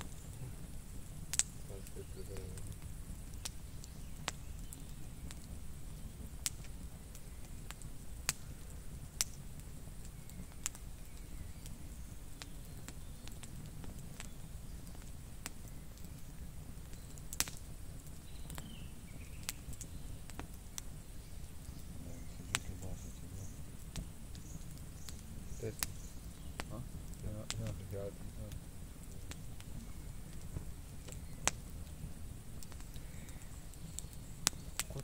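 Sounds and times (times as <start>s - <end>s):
campfire crackling and popping: 0.0s - 35.0s
low steady rumble: 0.0s - 35.0s.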